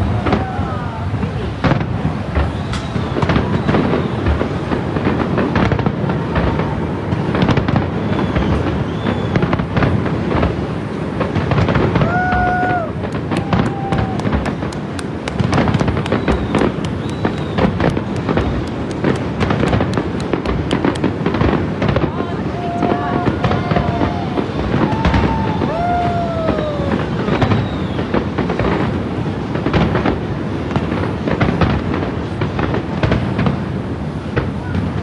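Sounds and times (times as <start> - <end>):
fireworks bursting: 0.0 - 35.0
fireworks crackling: 0.0 - 35.0.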